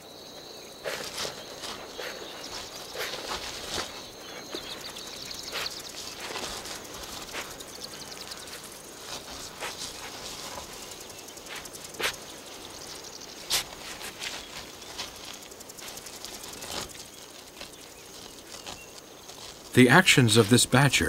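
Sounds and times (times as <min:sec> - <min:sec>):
insects chirring: 0:00.0 - 0:21.0
animal snuffling: 0:00.8 - 0:19.6
animal digging scrapes: 0:00.8 - 0:19.8.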